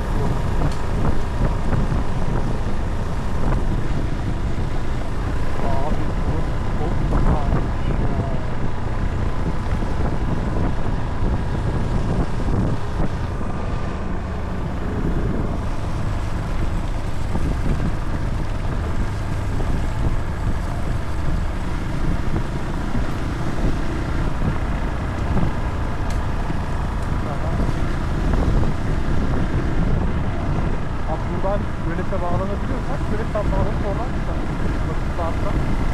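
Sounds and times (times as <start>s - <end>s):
vehicle rumbling: 0.0s - 35.9s
wind noise on microphone: 0.0s - 35.9s.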